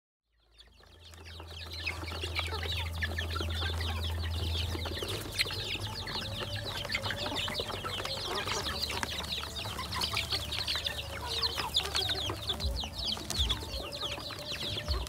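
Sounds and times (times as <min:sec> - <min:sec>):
chicks peeping and clucking: 0:00.3 - 0:15.0.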